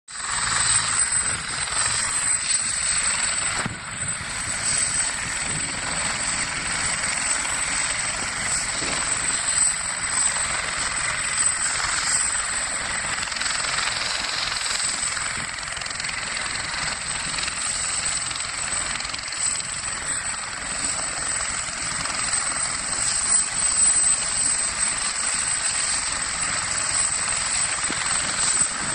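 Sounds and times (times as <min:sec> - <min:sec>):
helicopter running: 0:00.1 - 0:28.9.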